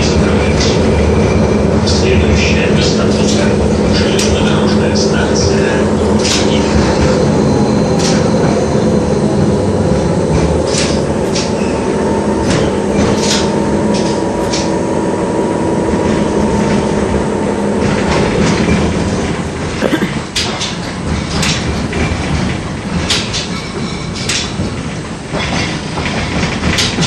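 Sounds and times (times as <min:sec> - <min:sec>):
tram motor and wheels rumbling: 0:00.0 - 0:27.0.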